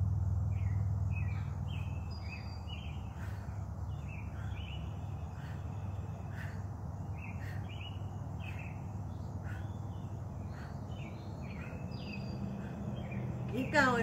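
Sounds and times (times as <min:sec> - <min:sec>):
low background hum: 0:00.0 - 0:14.0
bird chirping: 0:00.4 - 0:14.0.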